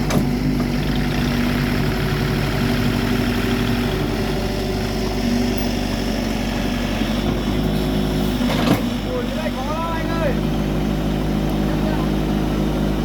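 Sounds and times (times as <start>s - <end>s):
heavy machinery engine running: 0.0s - 13.0s.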